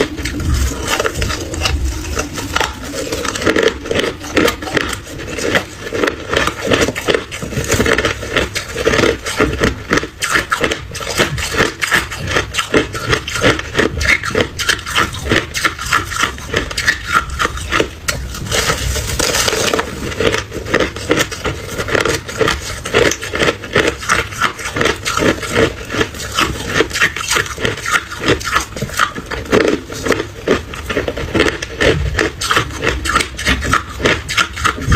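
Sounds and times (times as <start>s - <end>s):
person crunching ice: 0.0s - 34.9s.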